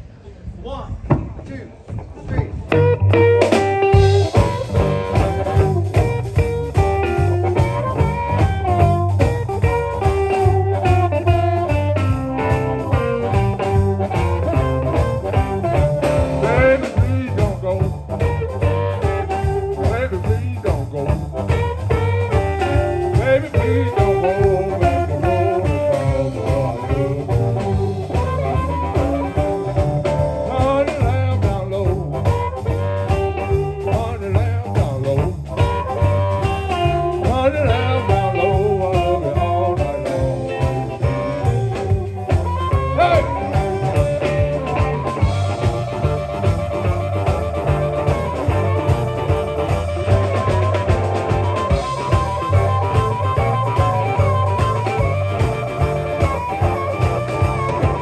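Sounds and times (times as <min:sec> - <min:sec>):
drums: 0:00.0 - 0:58.0
electric bass: 0:02.0 - 0:58.0
electric guitars: 0:02.0 - 0:58.0
amplified harmonica: 0:02.8 - 0:58.0.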